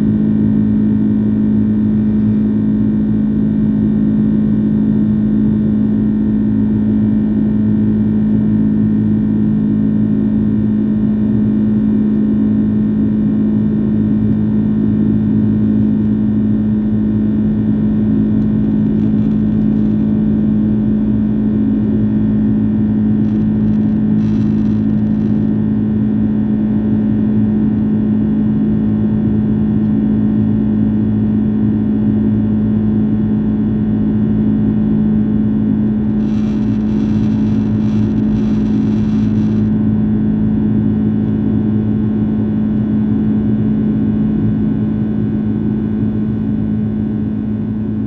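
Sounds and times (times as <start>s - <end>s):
airliner cabin engine drone: 0.0s - 48.0s.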